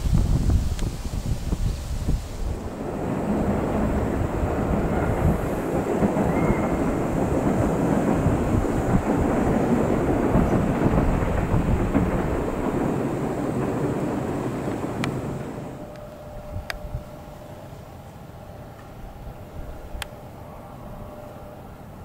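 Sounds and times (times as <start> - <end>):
train wheels rumbling on rails: 0.0 - 21.1.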